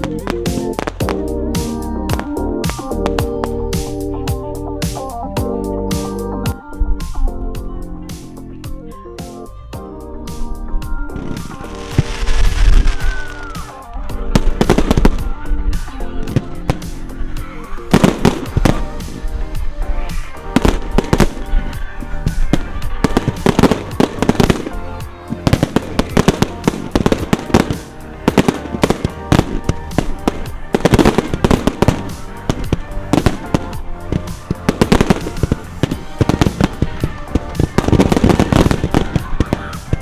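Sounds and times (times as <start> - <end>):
fireworks bangs and crackling: 0.0 - 6.2, 11.1 - 40.0
music playing: 0.0 - 40.0.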